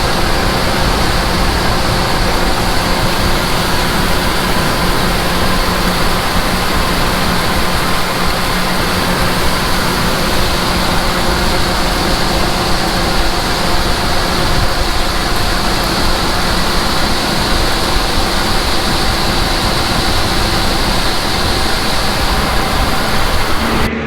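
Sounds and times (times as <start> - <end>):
large diesel engine running: 0.0 - 24.0.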